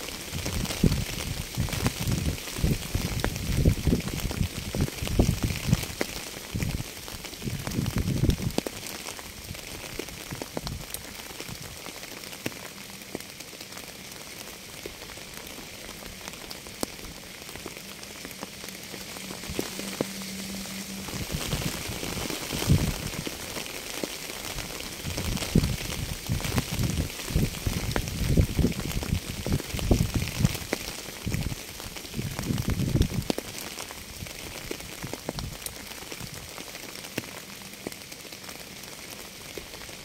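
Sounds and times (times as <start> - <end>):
rain drops ticking: 0.0 - 40.0.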